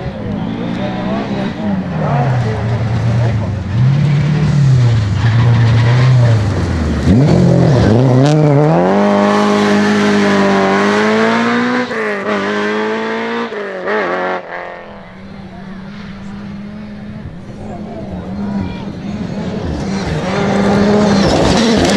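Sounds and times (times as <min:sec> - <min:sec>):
rally car engine revving: 0:00.0 - 0:21.9.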